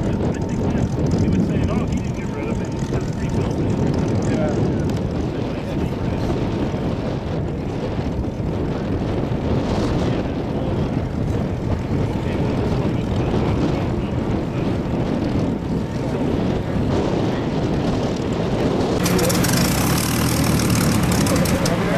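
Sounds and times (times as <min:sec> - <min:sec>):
aircraft piston engine rumbling: 0:00.0 - 0:21.9.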